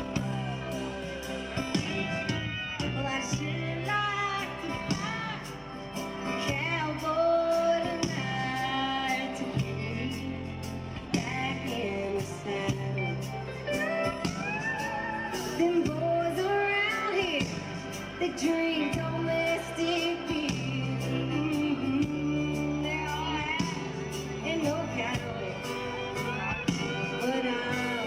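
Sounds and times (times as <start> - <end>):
live country band playing: 0.0 - 28.0.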